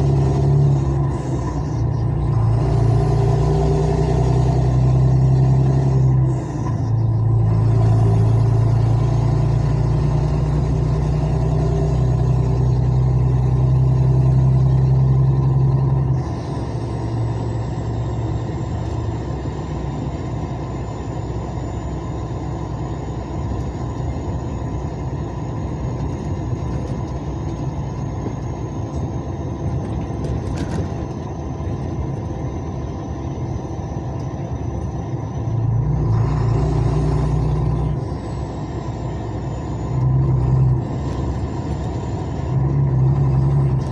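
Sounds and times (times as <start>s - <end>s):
vehicle engine droning: 0.0s - 43.9s.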